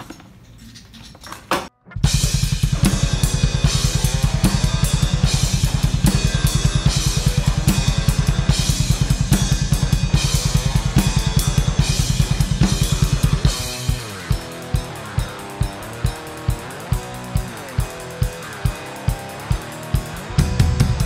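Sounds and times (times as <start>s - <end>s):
electric guitar: 1.8s - 21.0s
fast bass drum beats: 2.0s - 21.0s
snare and cymbals: 2.0s - 21.0s.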